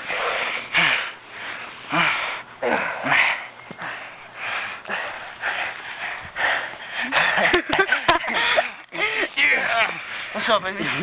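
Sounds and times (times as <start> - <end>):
heavy wheezing breaths: 0.0 - 11.0.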